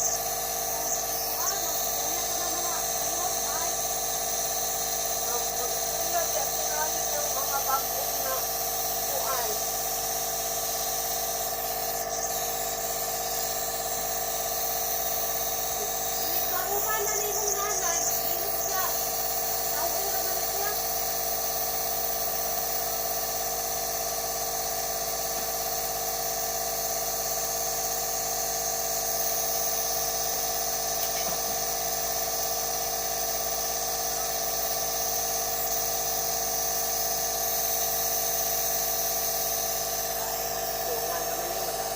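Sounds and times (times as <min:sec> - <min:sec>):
nebulizer compressor motor hum: 0:00.0 - 0:41.9.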